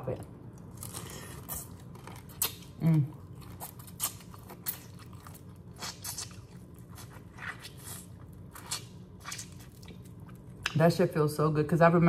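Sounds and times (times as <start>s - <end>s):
chewing: 0.6s - 10.8s.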